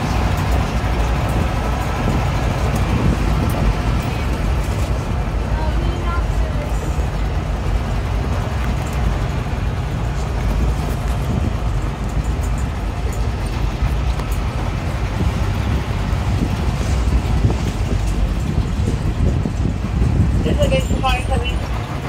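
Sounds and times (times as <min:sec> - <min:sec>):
vehicle engine and wheels rumbling: 0:00.0 - 0:22.0.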